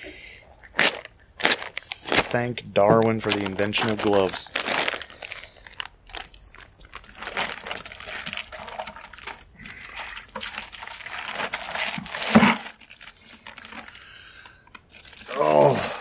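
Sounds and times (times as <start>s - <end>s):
plastic bags crinkling: 0.6s - 15.4s.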